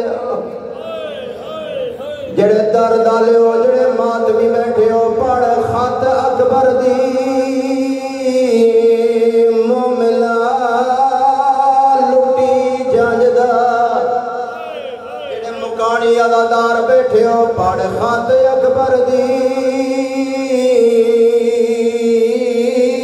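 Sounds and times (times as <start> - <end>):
man chanting into microphone: 0.0 - 23.0.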